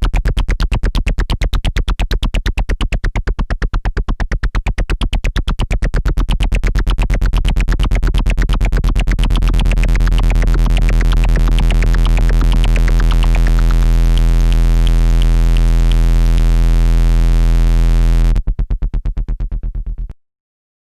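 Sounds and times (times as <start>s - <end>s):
synthesizer bass note pulsing: 3.2s - 20.2s.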